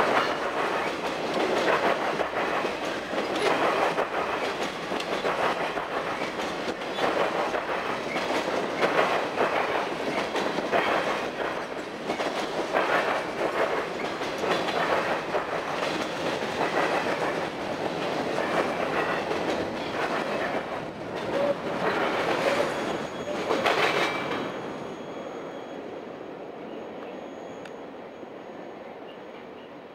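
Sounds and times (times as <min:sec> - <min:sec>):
steady train rumble: 0:00.0 - 0:29.9.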